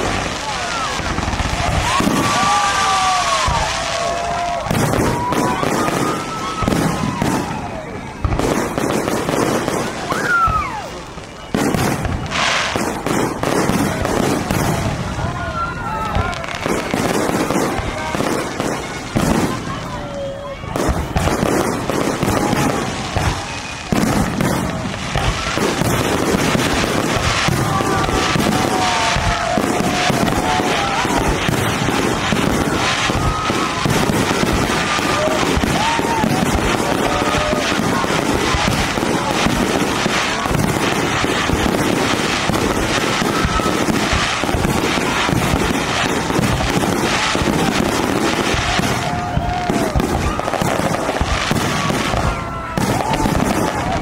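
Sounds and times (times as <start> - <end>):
fireworks bangs and crackling: 0.0 - 54.0
fireworks whistles: 0.0 - 54.0.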